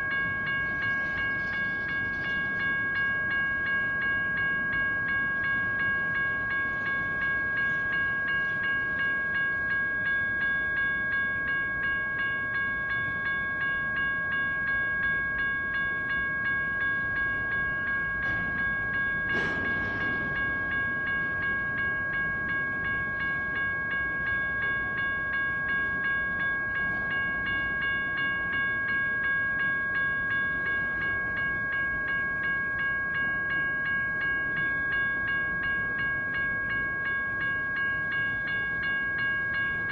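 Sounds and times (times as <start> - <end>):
crossing bell dinging: 0.0 - 39.9
train rumbling: 0.0 - 39.9.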